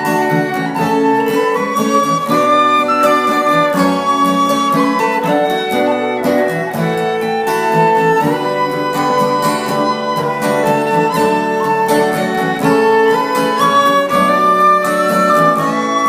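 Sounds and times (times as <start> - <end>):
fiddle playing melody: 0.0 - 16.0
strummed acoustic guitar: 0.0 - 16.0.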